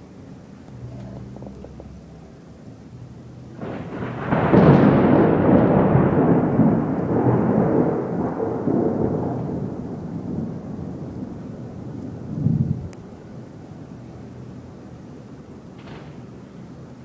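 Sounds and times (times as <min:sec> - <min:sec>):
thunder crack and rumble: 0:00.8 - 0:14.4, 0:15.3 - 0:16.6.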